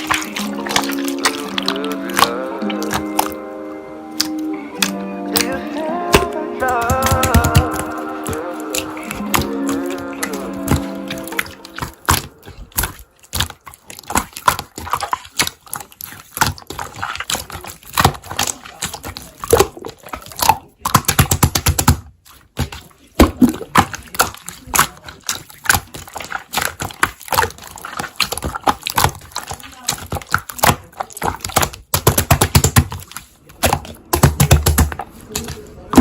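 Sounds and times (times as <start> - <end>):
slime squeezed with wet pops: 0.0 - 3.4, 6.1 - 36.0.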